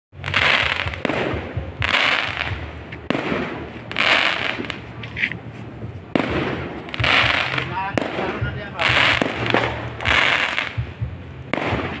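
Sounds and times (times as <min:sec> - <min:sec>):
fireworks bangs: 0:00.2 - 0:05.1, 0:05.8 - 0:12.0
fireworks sizzling crackle: 0:00.2 - 0:10.8.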